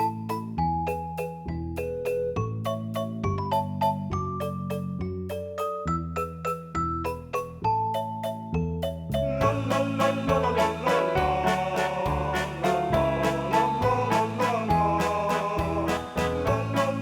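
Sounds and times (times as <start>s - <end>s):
upbeat keyboard tune with beat: 0.0s - 17.0s.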